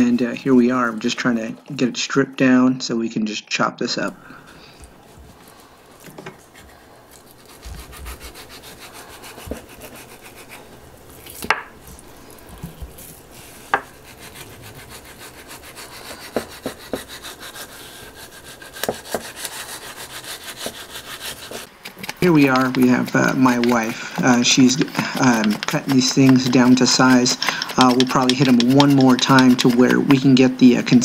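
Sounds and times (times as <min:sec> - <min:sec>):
knife scraping on wooden board: 0:04.4 - 0:11.5, 0:12.4 - 0:31.0.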